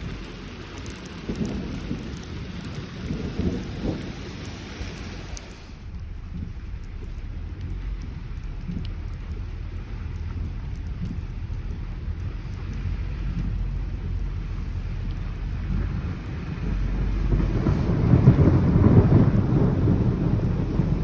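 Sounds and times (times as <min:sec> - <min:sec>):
heavy rain: 0:00.0 - 0:21.0
low thunder rumble: 0:00.0 - 0:21.0
raindrops ticking on a surface: 0:00.0 - 0:21.0.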